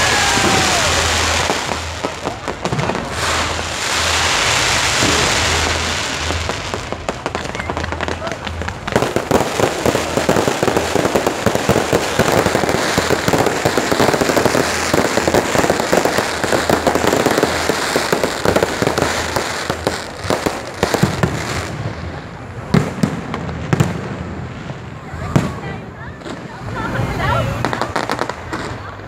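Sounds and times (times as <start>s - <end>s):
fireworks bangs: 0.0s - 29.0s
fireworks crackling and popping: 0.0s - 29.0s.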